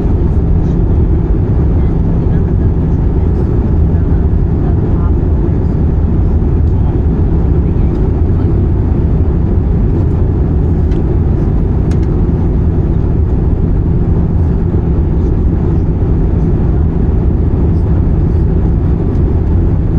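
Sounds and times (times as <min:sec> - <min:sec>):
airliner cabin rumble: 0:00.0 - 0:19.9.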